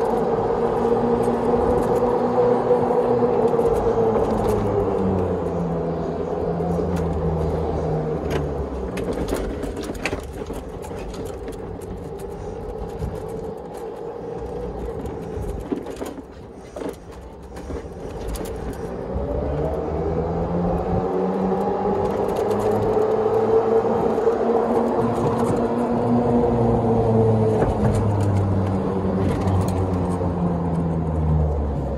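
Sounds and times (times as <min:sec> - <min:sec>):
golf cart running: 0:00.0 - 0:31.9.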